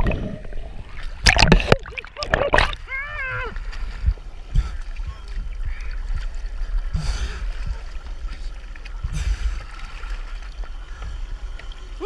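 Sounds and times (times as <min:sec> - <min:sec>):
sea water sloshing and gurgling: 0:00.0 - 0:12.0
steady low rumble: 0:00.0 - 0:12.0
water splashes: 0:00.0 - 0:12.0.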